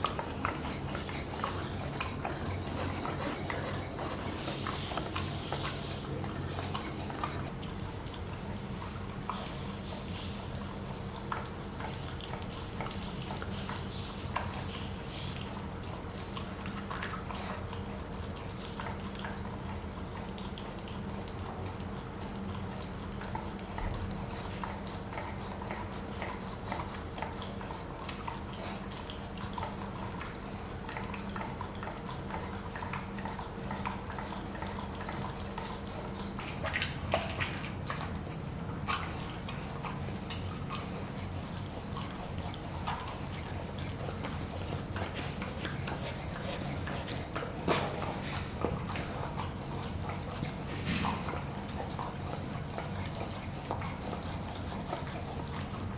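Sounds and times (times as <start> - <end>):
faint steady hum: 0.0 - 55.9
puppy licking and chewing: 0.0 - 55.9.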